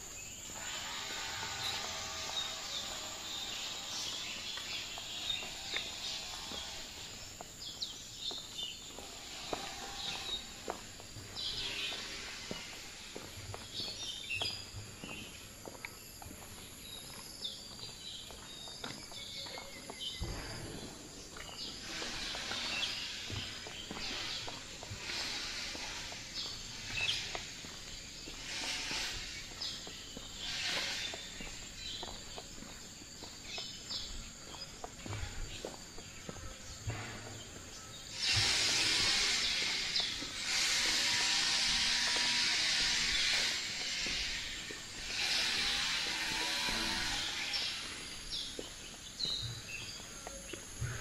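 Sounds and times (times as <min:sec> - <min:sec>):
insect drone: 0:00.0 - 0:19.2, 0:20.2 - 0:51.0
birds chirping: 0:00.0 - 0:51.0
footsteps on a path: 0:00.0 - 0:51.0.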